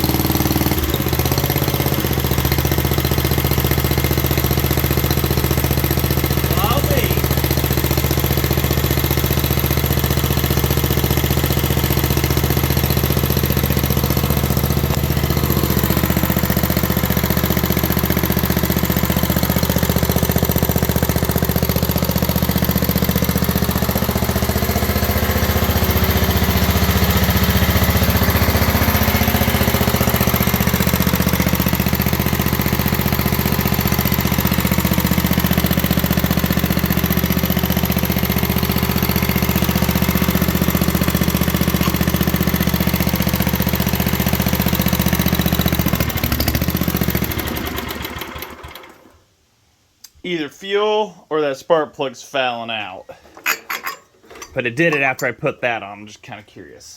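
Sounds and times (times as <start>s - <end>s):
small engine running steadily: 0.0s - 49.2s.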